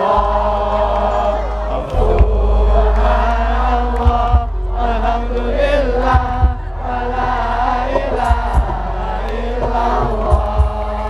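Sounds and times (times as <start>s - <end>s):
group chanting in unison: 0.0s - 11.0s
deep drum beats: 1.8s - 11.0s.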